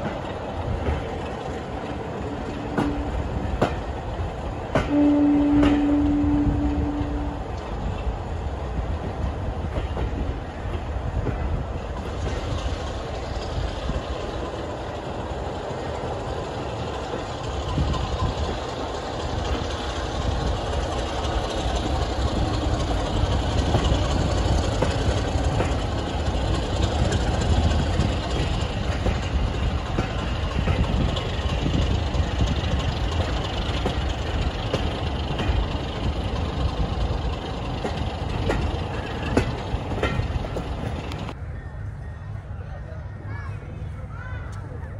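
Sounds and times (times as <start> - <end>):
train wheels rumbling on rails: 0.0 - 41.8.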